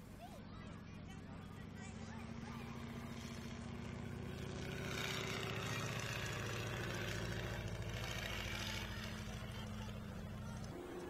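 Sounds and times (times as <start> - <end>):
biplane engine flying past: 0.0 - 11.0.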